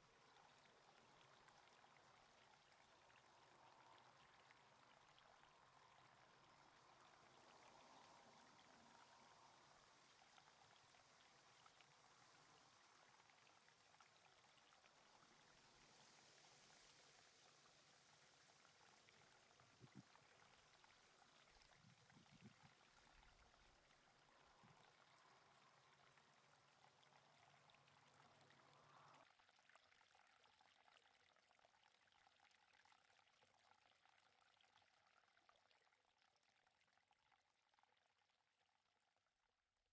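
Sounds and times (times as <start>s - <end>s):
faint low hum: 0.0s - 39.6s
faint steady hiss: 0.0s - 39.9s.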